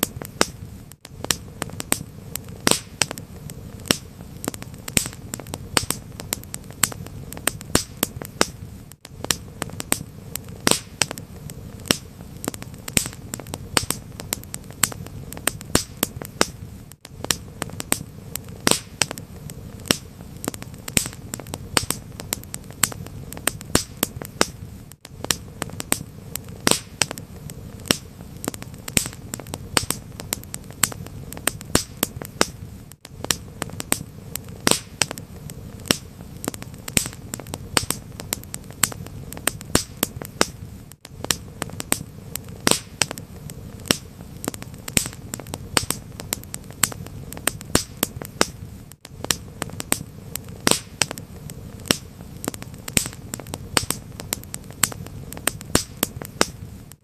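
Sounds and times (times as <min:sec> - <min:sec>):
low rumble of fire: 0:00.0 - 0:57.0
wood fire pops and snaps: 0:00.0 - 0:57.0.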